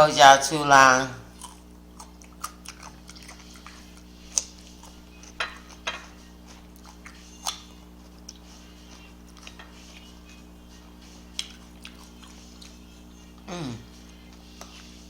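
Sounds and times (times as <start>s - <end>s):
faint steady hum: 0.0s - 15.0s
person chewing: 1.3s - 15.0s.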